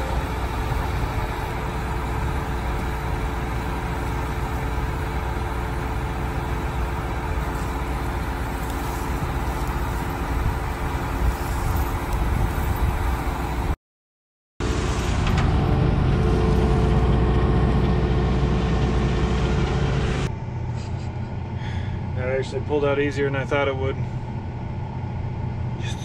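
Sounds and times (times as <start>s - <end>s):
diesel engines running: 0.0s - 13.8s, 14.6s - 26.0s.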